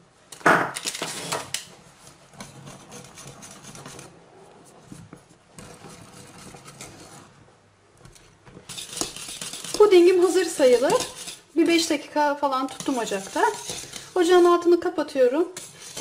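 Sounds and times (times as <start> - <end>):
whisk scraping metal pot: 1.0 - 7.4, 8.1 - 16.0.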